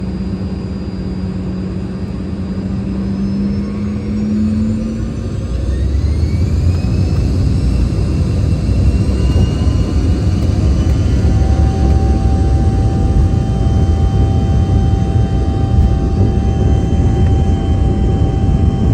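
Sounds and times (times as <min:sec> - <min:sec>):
jet engines spooling up: 0:00.0 - 0:18.9
low rumble: 0:00.0 - 0:18.9
rising engine whines: 0:00.0 - 0:18.9.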